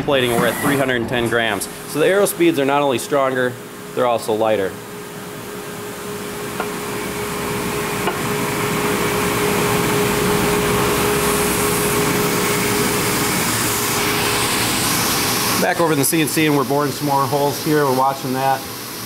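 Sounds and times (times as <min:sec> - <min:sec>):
constant machine whine: 0:00.0 - 0:19.0
machine hum and hiss: 0:00.0 - 0:19.0.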